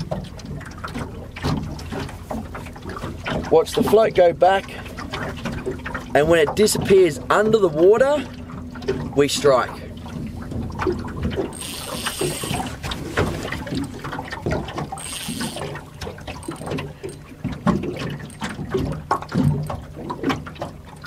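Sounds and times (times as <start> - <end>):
water lapping against boat: 0.0 - 21.0.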